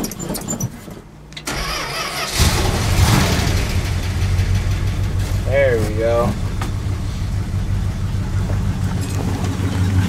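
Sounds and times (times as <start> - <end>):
truck engine running: 1.6 - 10.0.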